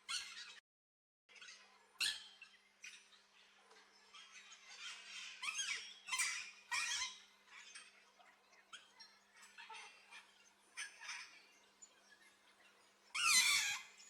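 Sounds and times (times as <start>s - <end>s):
birds squeaky calls and squawks: 0.0s - 0.6s, 1.3s - 14.0s.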